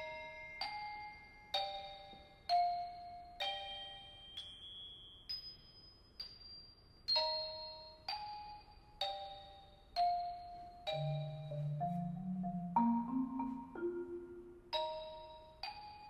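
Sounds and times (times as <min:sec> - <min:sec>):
bell-like mallet percussion notes: 0:00.0 - 0:16.0.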